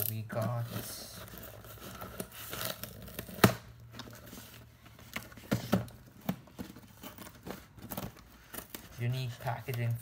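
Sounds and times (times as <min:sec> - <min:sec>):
packaging rustling and tearing: 0:00.0 - 0:10.0.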